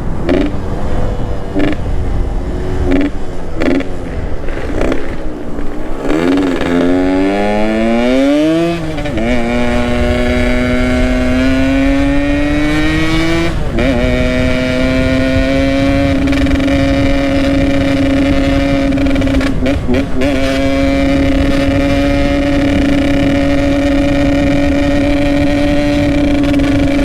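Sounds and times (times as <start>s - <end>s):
motorcycle accelerating: 0.0s - 27.0s
wind rushing: 0.0s - 27.0s.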